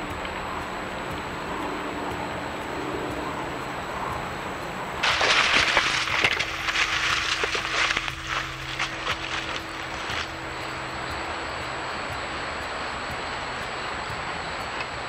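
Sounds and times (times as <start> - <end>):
dry leaves and twigs crackling: 0.0 - 13.9
steady hiss: 0.0 - 15.0.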